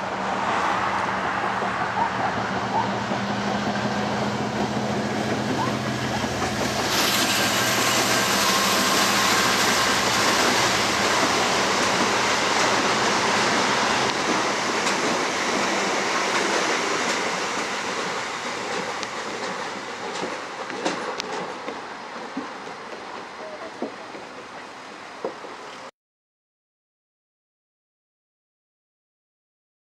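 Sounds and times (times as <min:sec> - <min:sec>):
diesel locomotive engine hum: 0:00.0 - 0:25.9
train wheels rumbling on rail: 0:00.0 - 0:25.9.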